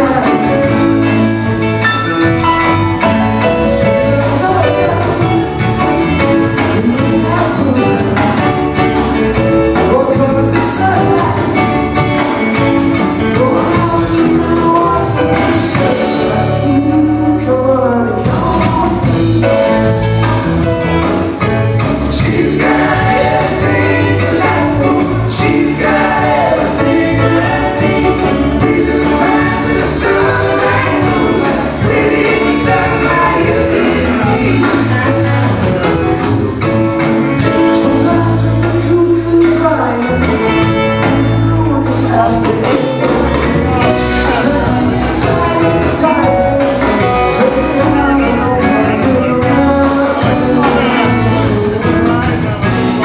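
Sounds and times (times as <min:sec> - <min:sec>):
live band playing dance music: 0:00.0 - 0:53.0
person singing: 0:00.0 - 0:53.0.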